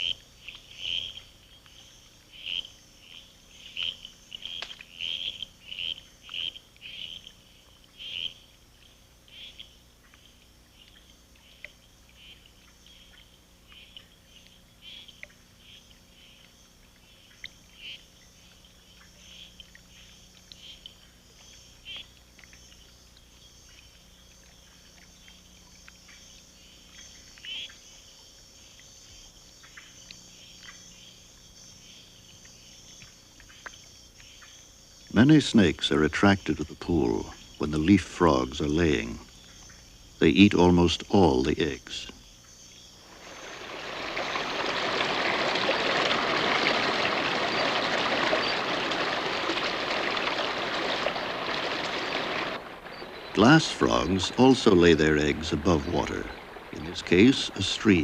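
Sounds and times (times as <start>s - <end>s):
frogs calling: 0.0s - 58.0s
insects trilling: 0.0s - 58.0s.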